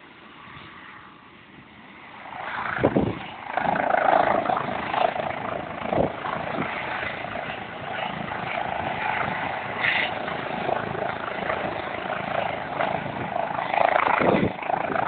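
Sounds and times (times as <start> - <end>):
helicopter engine and rotor: 1.0 - 15.0.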